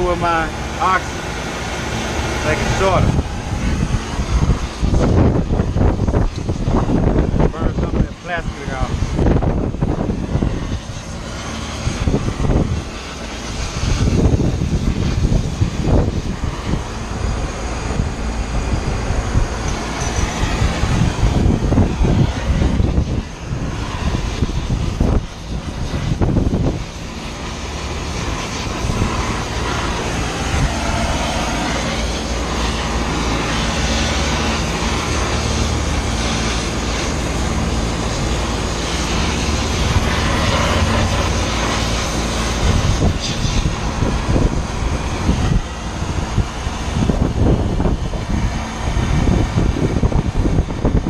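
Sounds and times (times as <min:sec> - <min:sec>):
torch hissing: 0:00.0 - 0:51.0
wind buffeting microphone: 0:00.0 - 0:51.0.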